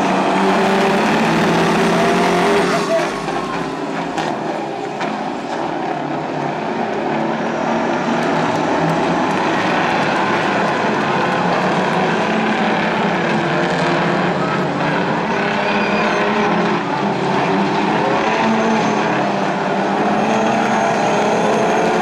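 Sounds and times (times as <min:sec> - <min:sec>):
truck diesel engines droning: 0:00.0 - 0:22.0.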